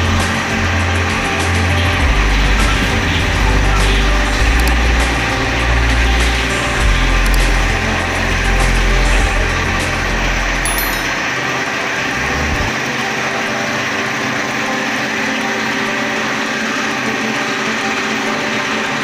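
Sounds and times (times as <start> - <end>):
machine hum with whir: 0.0 - 19.0.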